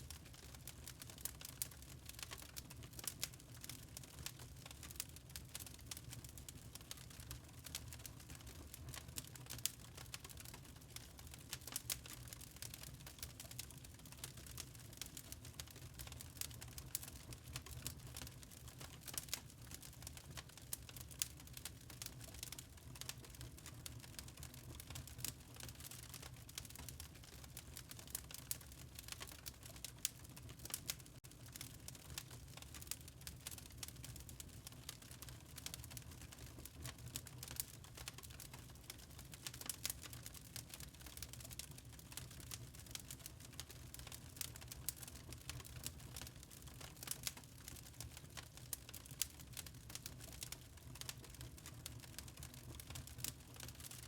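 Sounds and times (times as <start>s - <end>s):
log fire crackling: 0.0s - 54.0s.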